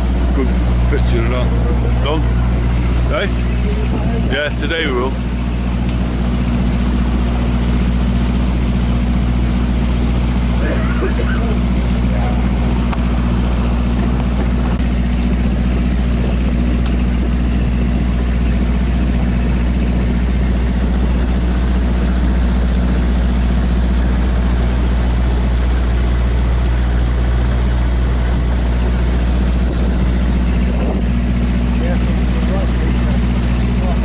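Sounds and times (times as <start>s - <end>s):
boat engine droning: 0.0s - 34.0s.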